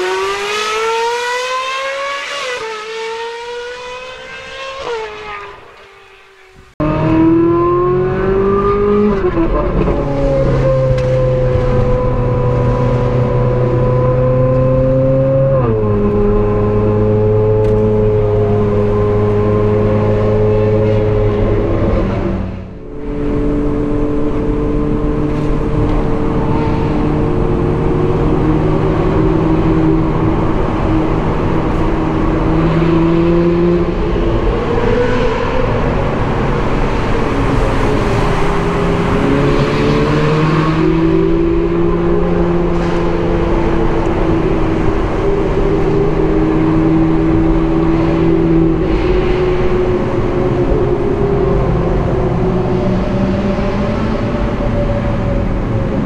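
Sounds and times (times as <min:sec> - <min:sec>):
sports car engine and exhaust: 0:00.0 - 0:56.0.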